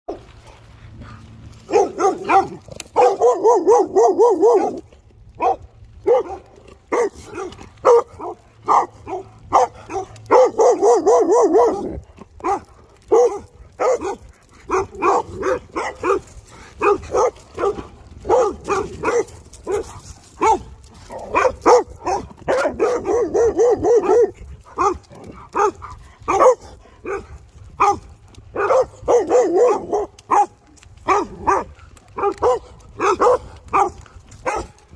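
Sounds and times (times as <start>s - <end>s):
dogs barking: 1.4s - 34.9s.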